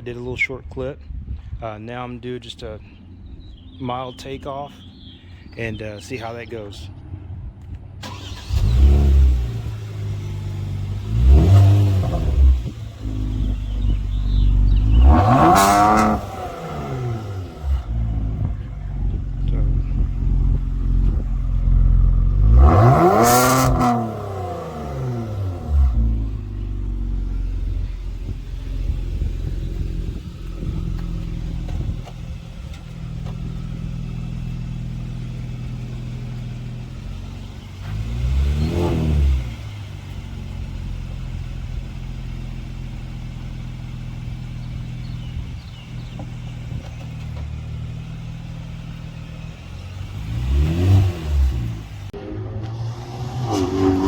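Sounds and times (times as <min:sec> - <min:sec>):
car engine revving: 0:08.0 - 0:54.0.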